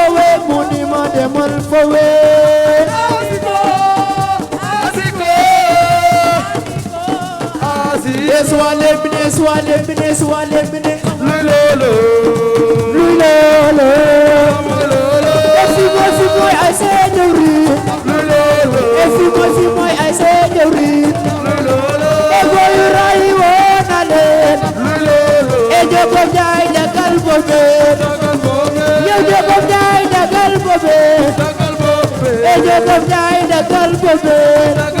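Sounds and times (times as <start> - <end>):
hand drum percussion: 0.0 - 35.0.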